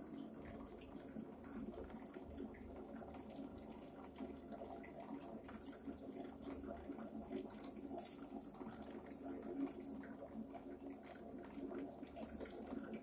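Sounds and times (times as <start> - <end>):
aquarium pump water noise: 0.0 - 13.0.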